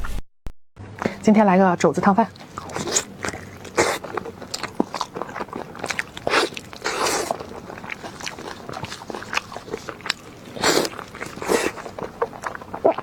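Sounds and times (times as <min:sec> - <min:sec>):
wet chewing and biting: 0:02.1 - 0:13.0
loud lip smacking: 0:02.5 - 0:13.0.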